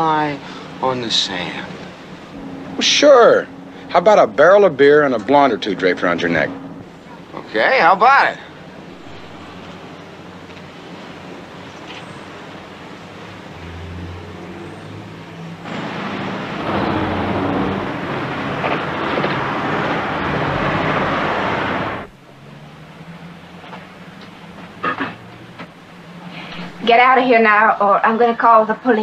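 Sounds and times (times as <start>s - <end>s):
passing vehicles rushing: 0.0s - 29.0s.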